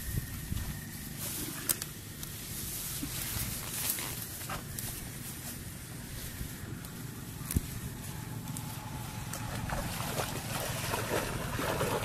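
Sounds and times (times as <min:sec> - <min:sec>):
steady outdoor hiss: 0:00.0 - 0:12.0
bare feet stepping through grass: 0:00.4 - 0:11.2.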